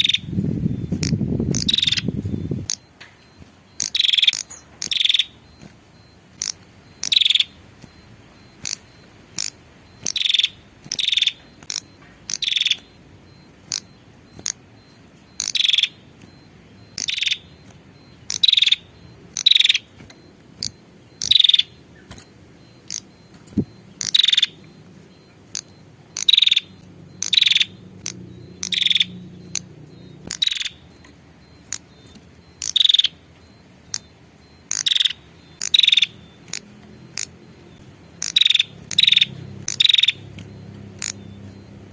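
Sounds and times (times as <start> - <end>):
bird giving harsh buzzy calls: 0.0 - 2.9, 3.7 - 5.7, 6.3 - 7.6, 8.5 - 16.2, 16.9 - 20.0, 20.6 - 31.0, 31.6 - 41.9.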